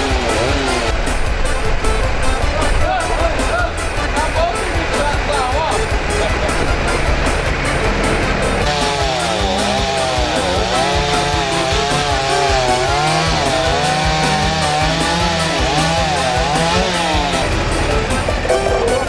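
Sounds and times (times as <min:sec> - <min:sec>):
chainsaw cutting wood: 0:00.0 - 0:18.7.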